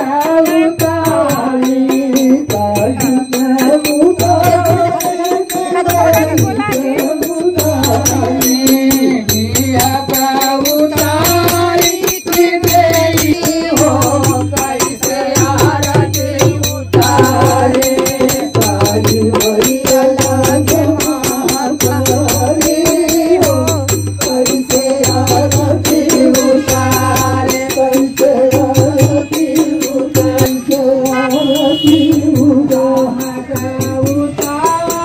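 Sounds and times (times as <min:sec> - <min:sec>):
men singing devotional song: 0:00.0 - 0:35.0
hand cymbals clashing: 0:00.2 - 0:35.0.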